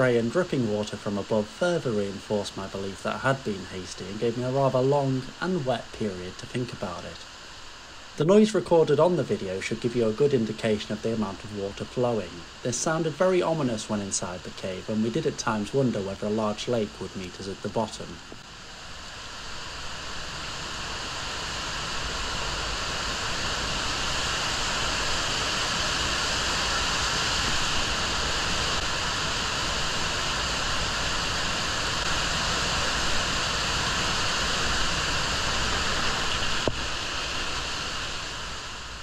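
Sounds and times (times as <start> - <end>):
underground waterfall rushing: 0.0 - 39.0.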